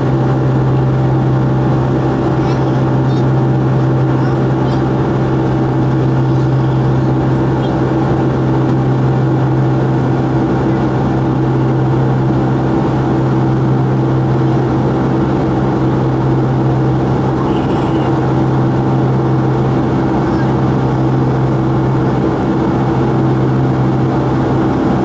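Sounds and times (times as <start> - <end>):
jet engine cabin drone: 0.0 - 25.0.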